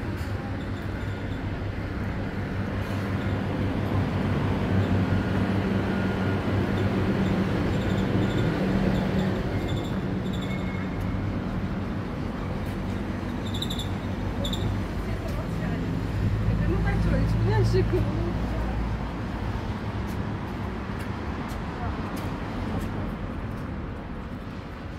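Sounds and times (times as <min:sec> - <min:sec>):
street traffic: 0:00.0 - 0:24.9.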